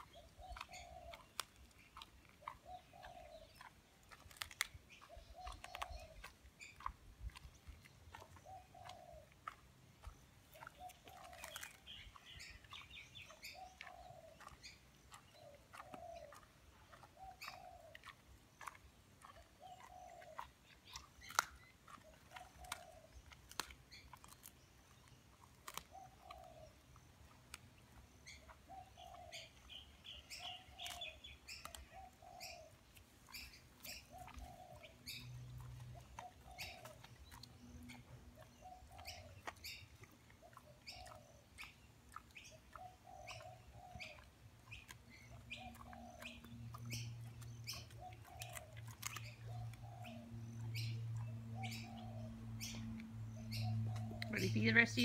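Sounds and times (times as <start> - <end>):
dog teeth crunching frozen bone: 0.0 - 55.0
faint birdsong: 0.0 - 55.0.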